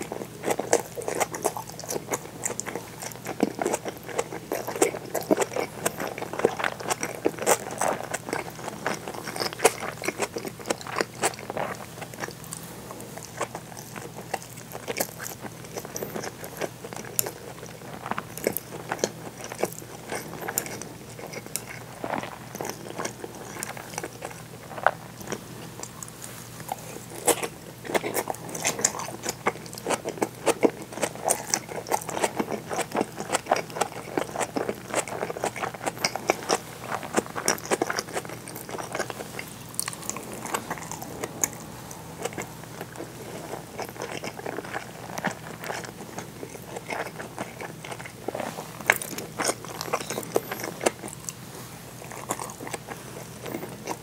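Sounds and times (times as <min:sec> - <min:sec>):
person chewing with mouth clicks: 0:00.0 - 0:51.4, 0:52.0 - 0:54.0.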